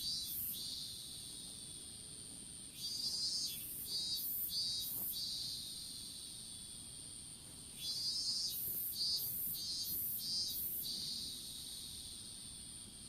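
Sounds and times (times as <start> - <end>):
insect buzzy chirps: 0.0 - 13.0
insect high-pitched trill: 0.0 - 13.0.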